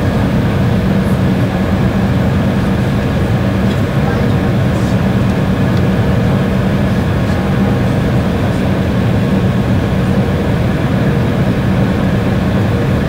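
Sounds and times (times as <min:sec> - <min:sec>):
jet engines droning in aircraft cabin: 0:00.0 - 0:13.0.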